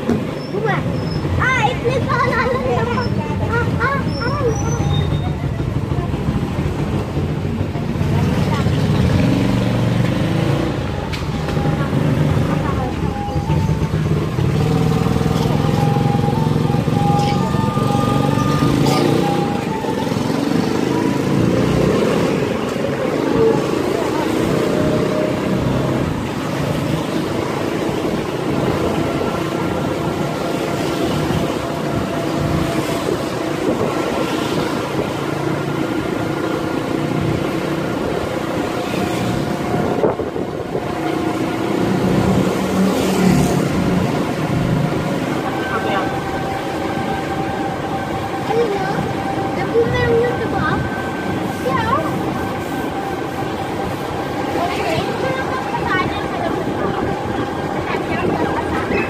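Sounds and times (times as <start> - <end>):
road noise inside vehicle: 0.0 - 59.0.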